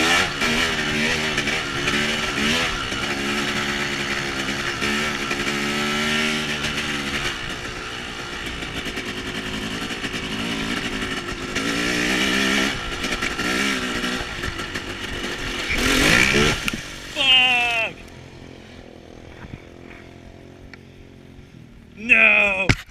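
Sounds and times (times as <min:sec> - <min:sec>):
off-road vehicle engines revving: 0:00.0 - 0:22.7.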